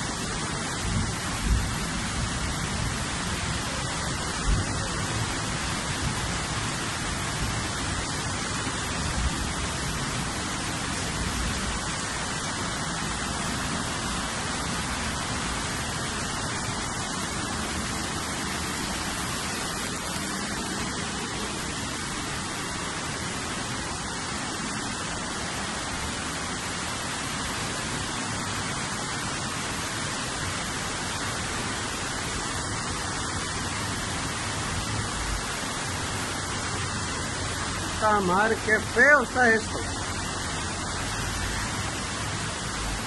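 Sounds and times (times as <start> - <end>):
heavy rain: 0.0 - 43.0
rushing floodwater: 0.0 - 43.0.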